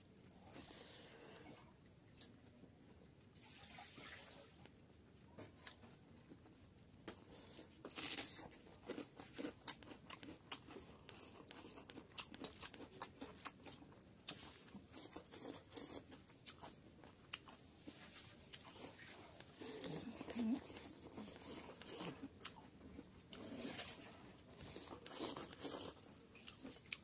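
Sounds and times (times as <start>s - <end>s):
person chewing food: 0.1s - 2.3s, 5.3s - 27.0s.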